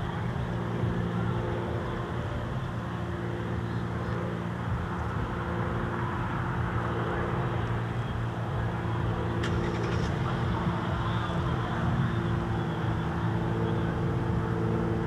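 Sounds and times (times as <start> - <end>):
light aircraft engine drone: 0.0 - 15.0.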